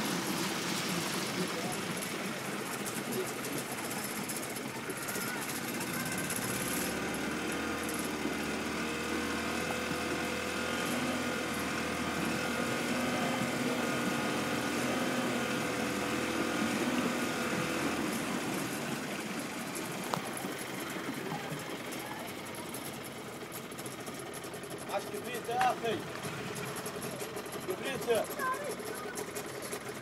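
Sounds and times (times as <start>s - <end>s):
boat engine chugging: 0.0s - 30.0s.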